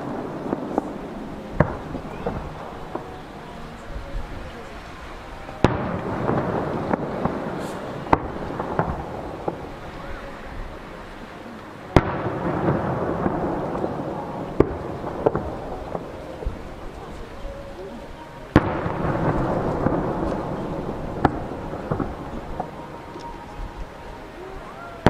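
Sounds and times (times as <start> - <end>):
fireworks booming: 0.0 - 25.0
rumbling echo: 0.0 - 25.0.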